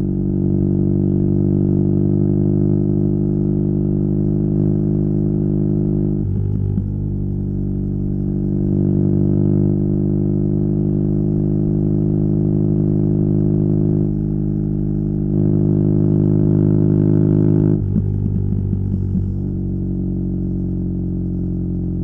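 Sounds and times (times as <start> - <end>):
motorcycle engine cruising: 2.2 - 22.0.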